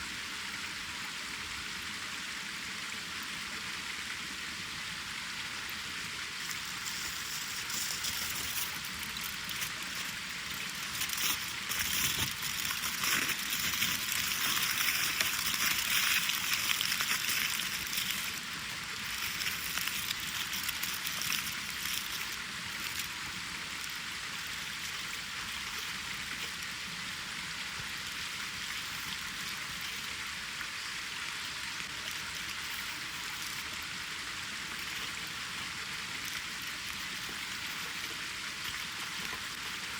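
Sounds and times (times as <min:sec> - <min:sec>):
wood fire crackling and hissing: 0:02.2 - 0:39.9.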